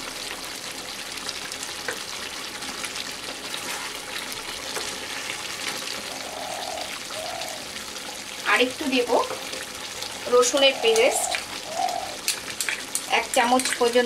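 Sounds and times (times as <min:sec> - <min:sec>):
chicken sizzling and bubbling: 0:00.0 - 0:14.0.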